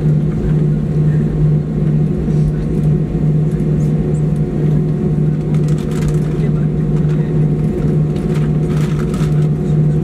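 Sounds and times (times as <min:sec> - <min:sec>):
aircraft cabin engine drone: 0:00.0 - 0:10.0.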